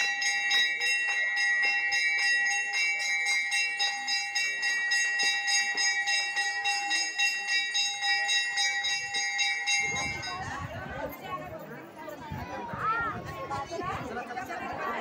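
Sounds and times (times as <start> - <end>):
temple bell rung rapidly: 0.0 - 12.5.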